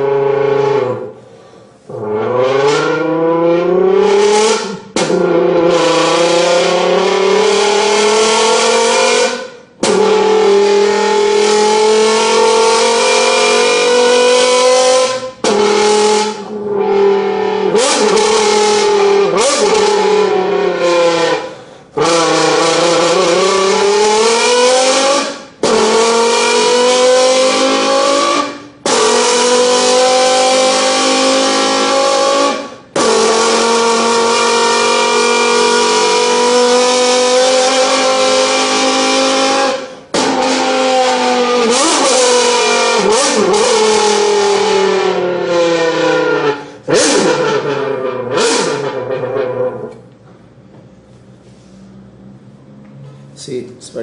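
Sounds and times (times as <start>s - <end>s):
mouth imitation of car engine: 0.0s - 50.2s.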